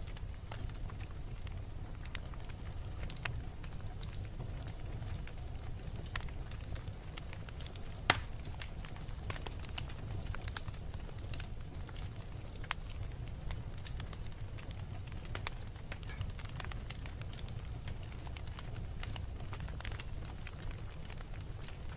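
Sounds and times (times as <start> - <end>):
low rumble of fire: 0.0 - 21.9
wood crackling and popping: 0.0 - 21.9.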